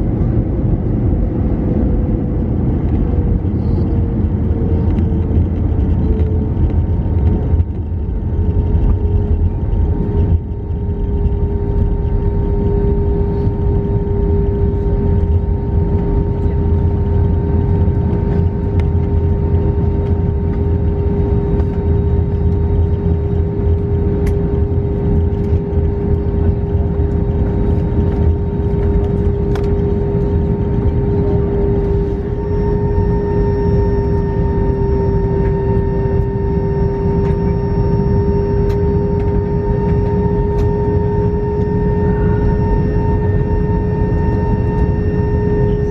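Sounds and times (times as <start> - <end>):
cabin low rumble: 0.0 - 45.9
jet engines whining: 0.0 - 45.9.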